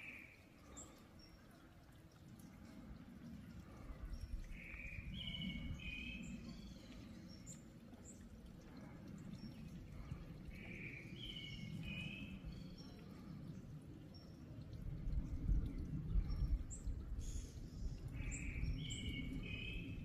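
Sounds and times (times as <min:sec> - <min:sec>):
low wind rumble: 0:02.2 - 0:20.0.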